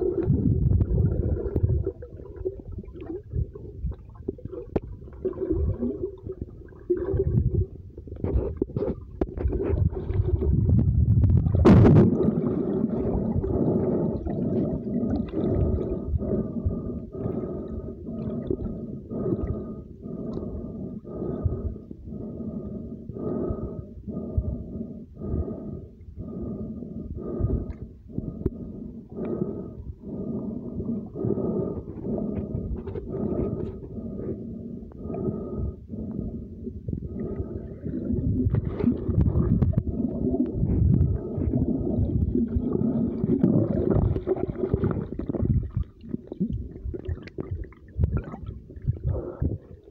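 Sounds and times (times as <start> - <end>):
muffled underwater rumble: 0.0 - 49.9
steady underwater pulsing: 0.0 - 49.9.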